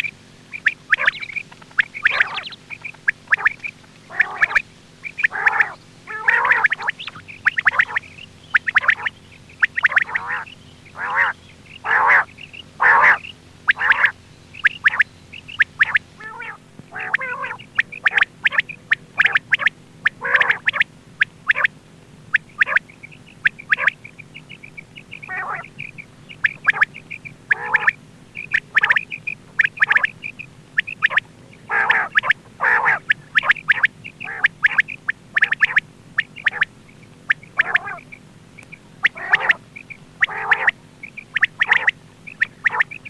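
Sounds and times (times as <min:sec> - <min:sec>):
faint steady hum: 0:00.0 - 0:43.0
quail calling rapidly: 0:00.0 - 0:43.0.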